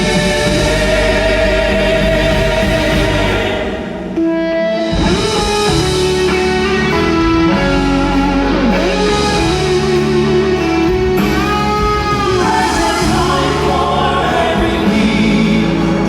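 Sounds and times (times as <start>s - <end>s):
electric guitar lead: 0.0s - 16.0s
live band music: 0.0s - 16.0s.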